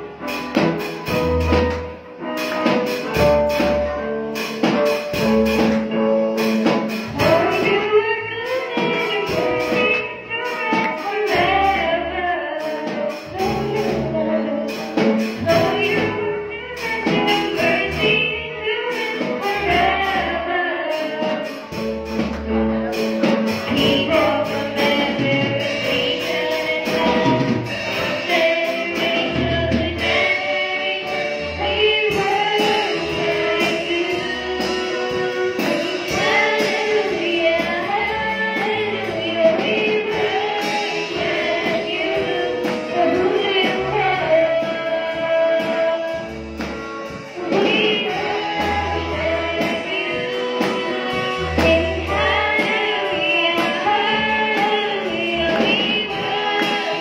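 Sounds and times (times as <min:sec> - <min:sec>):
bass and drums backing: 0:00.0 - 0:57.0
woman singing gospel song: 0:06.9 - 0:21.9, 0:23.0 - 0:57.0.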